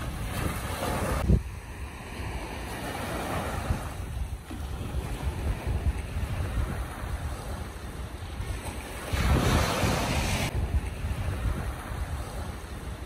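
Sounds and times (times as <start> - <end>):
small waves breaking on beach: 0.0 - 13.0
wind on microphone: 0.0 - 13.0.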